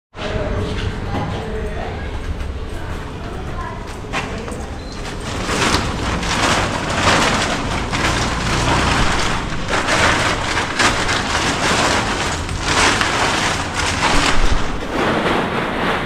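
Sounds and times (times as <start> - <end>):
plastic cover crinkling: 2.3 - 16.0.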